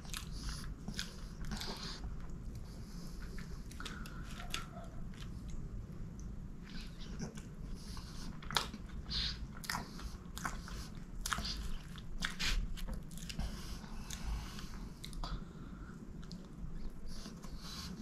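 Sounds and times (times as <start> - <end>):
chewing and wet mouth smacks: 0.0 - 15.4.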